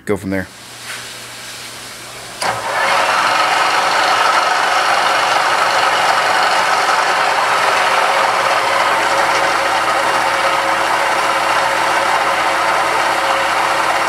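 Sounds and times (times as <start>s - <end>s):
drill press running: 0.5s - 14.0s.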